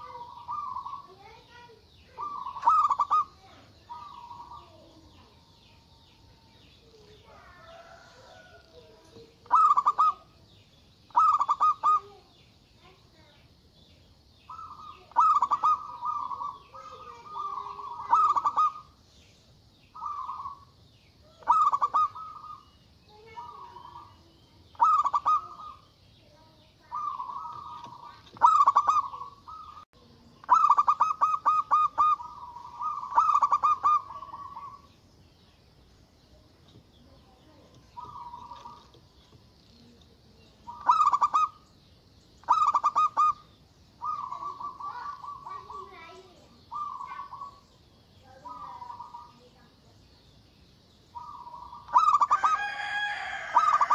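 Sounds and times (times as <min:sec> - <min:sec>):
dove cooing trilled coos: 0:00.0 - 0:13.0, 0:14.5 - 0:19.0, 0:20.0 - 0:25.9, 0:26.8 - 0:34.9, 0:37.8 - 0:39.0, 0:39.9 - 0:41.6, 0:42.4 - 0:47.7, 0:48.3 - 0:49.7, 0:51.2 - 0:53.9.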